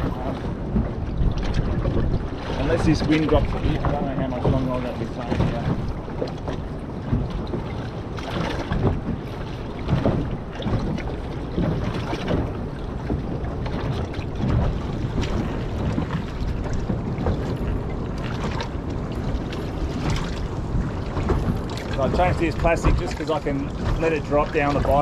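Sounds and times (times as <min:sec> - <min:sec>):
choppy sea rushing: 0:00.0 - 0:25.0
strong wind buffeting microphone: 0:00.0 - 0:25.0.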